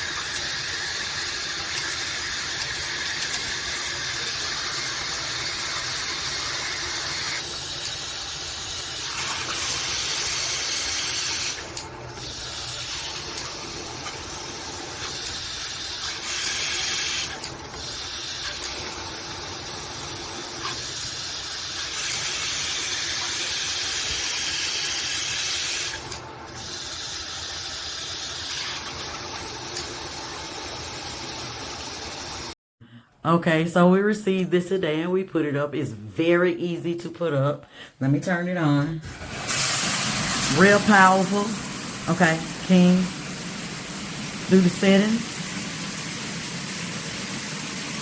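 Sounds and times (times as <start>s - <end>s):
shower head spraying water: 0.0s - 32.5s, 39.0s - 48.0s.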